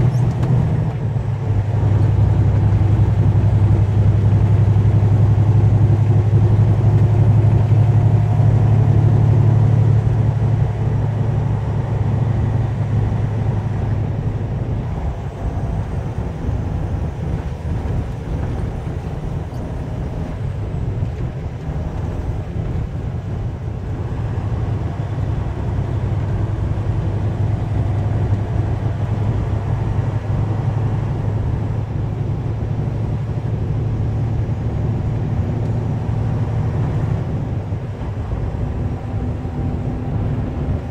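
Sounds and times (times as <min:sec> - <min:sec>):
road noise: 0:00.0 - 0:40.9
truck engine droning: 0:00.0 - 0:40.9.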